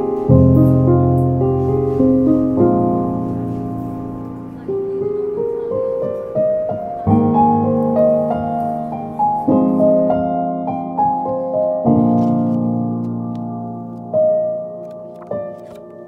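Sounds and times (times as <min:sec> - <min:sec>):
piano music with chords: 0:00.0 - 0:16.0.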